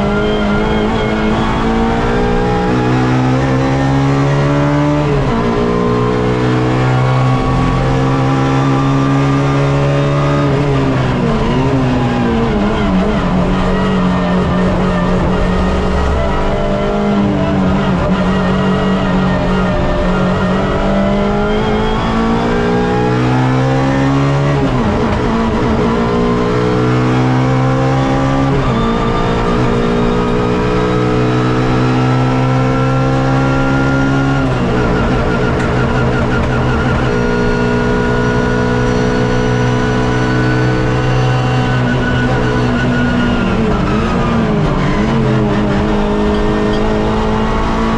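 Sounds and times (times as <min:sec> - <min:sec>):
race car engine at full throttle: 0:00.0 - 0:47.9.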